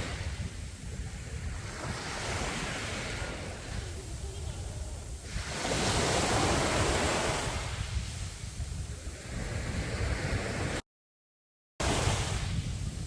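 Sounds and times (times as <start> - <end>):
sea waves breaking on a beach: 0.0 - 10.8, 11.8 - 13.0.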